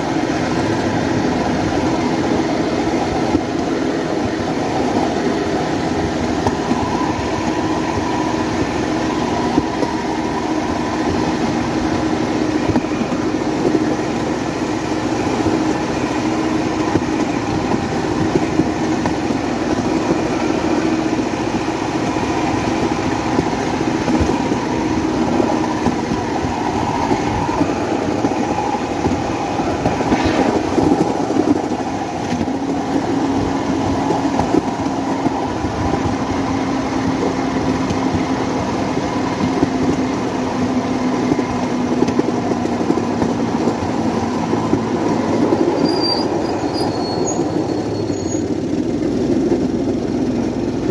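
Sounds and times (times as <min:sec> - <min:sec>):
motorcycle engine pulling steadily: 0:00.0 - 0:30.4, 0:31.1 - 0:50.9
rail clatter: 0:00.0 - 0:50.9.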